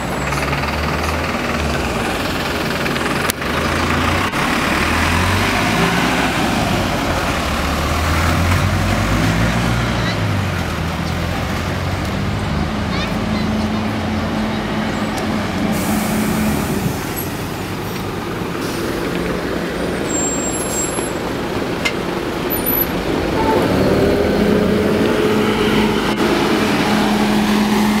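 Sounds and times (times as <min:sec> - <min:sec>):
bus diesel engine driving past: 0:00.0 - 0:28.0.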